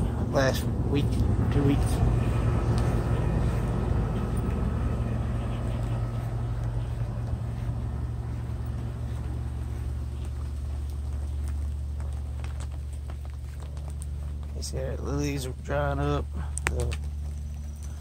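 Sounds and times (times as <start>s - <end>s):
light rain pattering: 0.0s - 18.0s
low engine-like hum: 0.0s - 18.0s.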